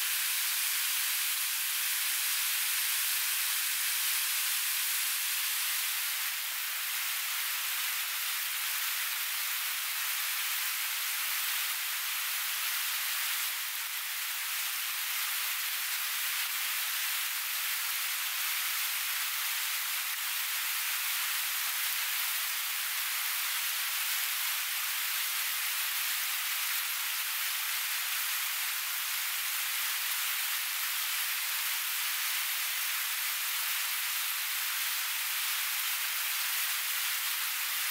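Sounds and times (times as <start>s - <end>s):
food sizzling in hot oil: 0.0s - 37.9s.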